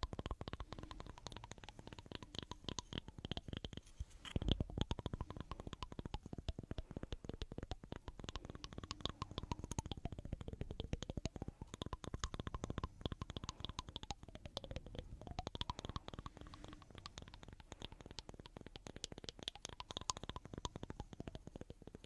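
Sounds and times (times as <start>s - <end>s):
sharp clicks and scratches: 0.0s - 22.0s.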